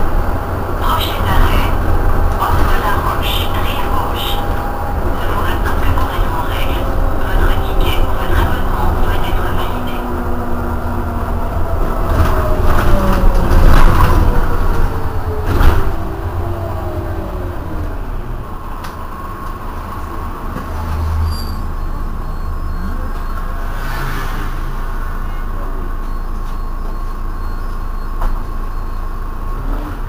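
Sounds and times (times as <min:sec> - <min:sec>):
bus engine idling: 0:00.0 - 0:23.8, 0:24.6 - 0:29.7.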